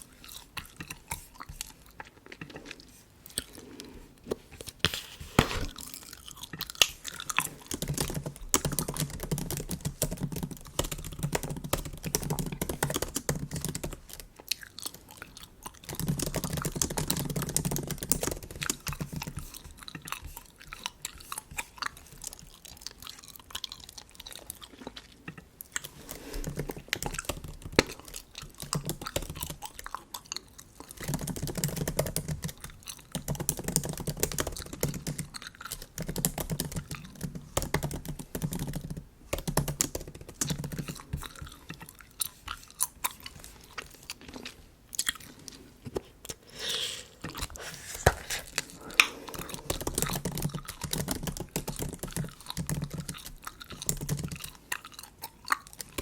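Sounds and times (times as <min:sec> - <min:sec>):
gum chewing wet smacks: 0:00.0 - 0:03.9, 0:05.7 - 0:31.8, 0:32.4 - 0:37.6, 0:40.1 - 0:56.0.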